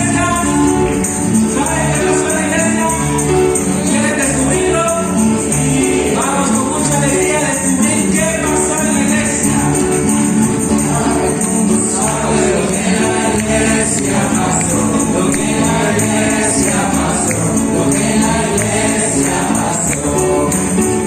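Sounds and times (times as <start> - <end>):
group singing praise song: 0.0 - 21.0
tambourine shaking: 0.0 - 21.0.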